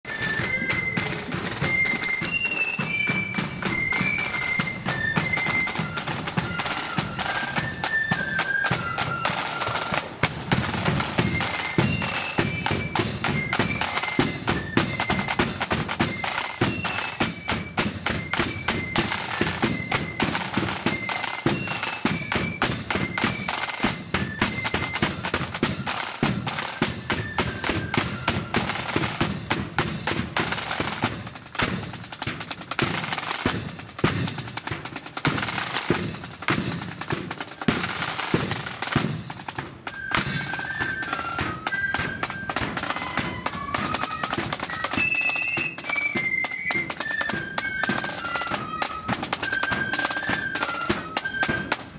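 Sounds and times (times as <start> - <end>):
rapid side-drum beating: 0.0 - 51.9
shrill flute melody: 0.0 - 51.9.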